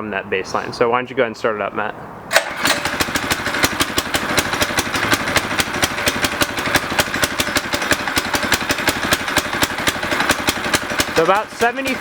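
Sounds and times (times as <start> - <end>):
small engine idling: 2.3 - 12.0.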